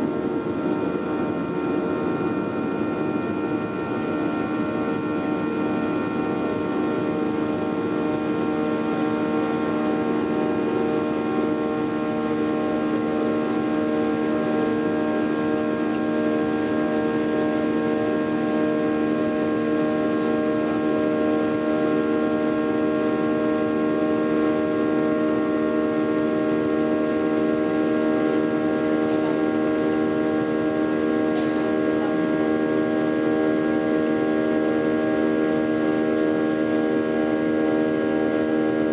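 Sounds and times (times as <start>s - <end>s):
jet engines droning in cabin: 0.0s - 38.9s.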